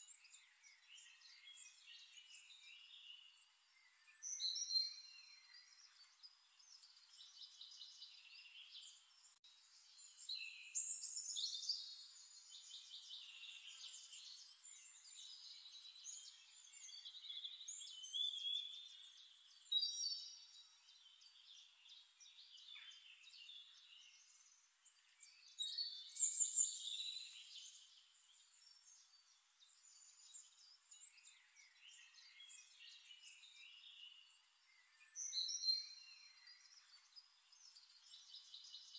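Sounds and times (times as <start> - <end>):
small birds singing and chirping: 0.0 - 38.9.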